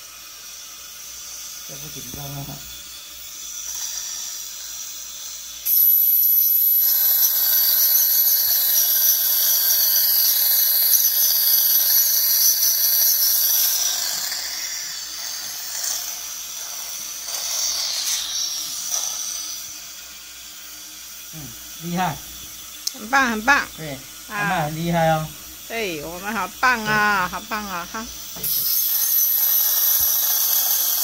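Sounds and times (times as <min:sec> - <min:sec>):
dental scaler whine: 0:00.0 - 0:31.0
suction: 0:00.0 - 0:31.0.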